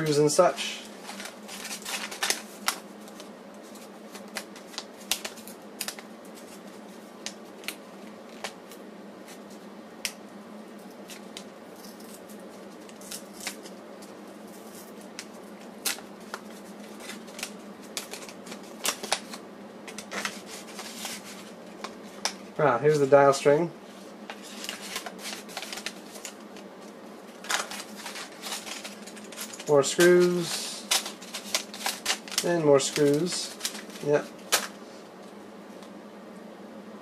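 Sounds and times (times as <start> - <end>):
paper crinkling and rustling: 0.7 - 9.6, 10.9 - 23.1, 23.9 - 35.3.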